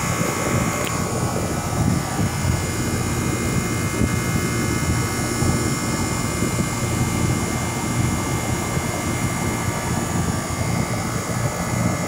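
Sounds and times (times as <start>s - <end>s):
air conditioner fan running: 0.0s - 12.0s.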